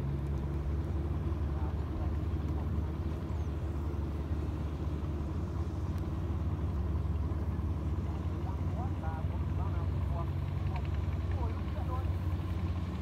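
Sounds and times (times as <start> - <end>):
combine harvester engine humming: 0.0 - 13.0.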